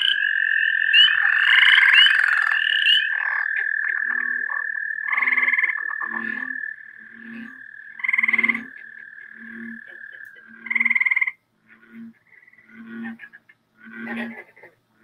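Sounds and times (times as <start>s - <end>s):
toad long steady trill: 0.0s - 14.4s
low frog calls: 0.0s - 15.0s
treefrog pulsed trills: 0.0s - 15.0s.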